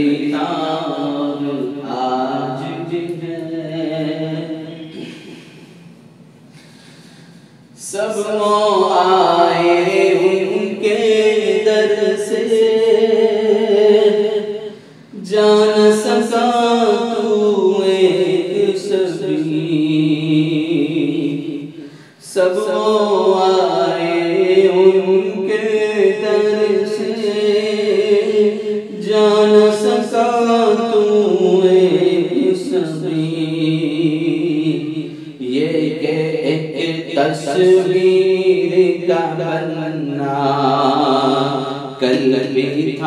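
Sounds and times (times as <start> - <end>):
man singing unaccompanied: 0.0 - 5.1, 7.8 - 43.0.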